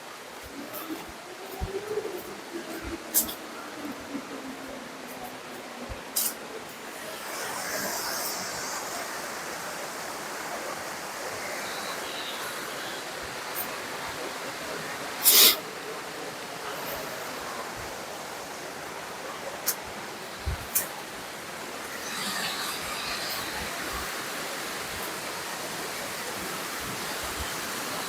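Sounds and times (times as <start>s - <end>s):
rush of flowing water: 0.0s - 28.0s.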